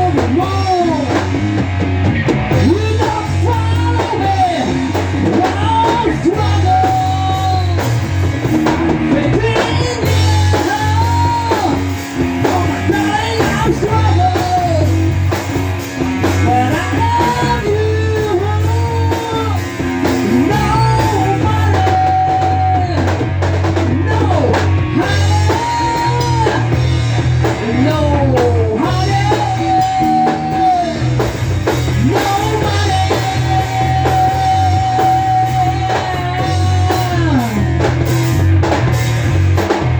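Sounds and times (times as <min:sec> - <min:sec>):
electric guitar lead line: 0:00.0 - 0:39.9
grunge rock song: 0:00.0 - 0:39.9.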